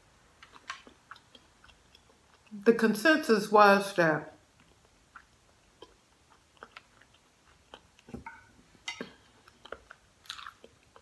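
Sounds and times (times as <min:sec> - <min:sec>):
person chewing food: 0:00.2 - 0:02.6, 0:04.4 - 0:11.0.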